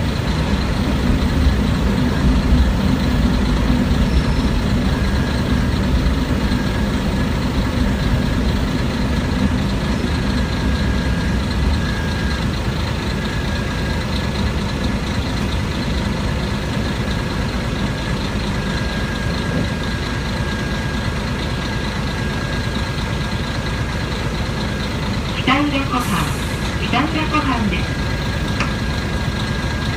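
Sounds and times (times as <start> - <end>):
railcar diesel engine rumble: 0.0 - 29.9.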